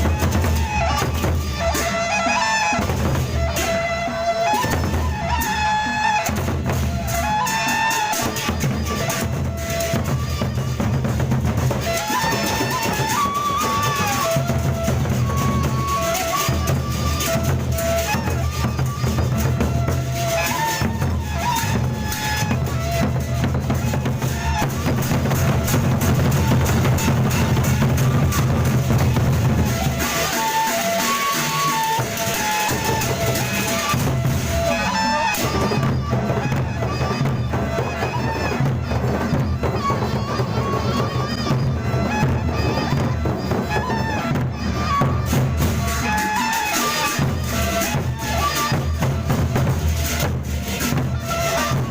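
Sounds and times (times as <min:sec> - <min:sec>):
large drums steady beat: 0:00.0 - 0:51.9.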